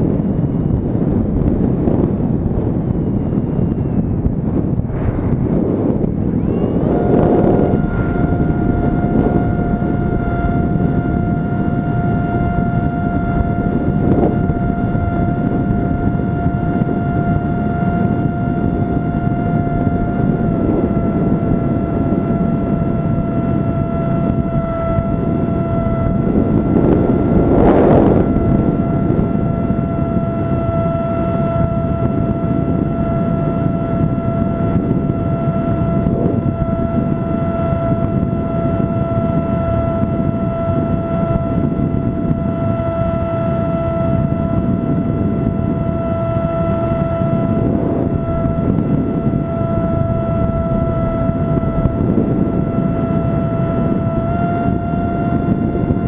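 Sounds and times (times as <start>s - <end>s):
model airplane motor and propeller: 0.0s - 56.0s
wind rushing across microphone: 0.0s - 56.0s.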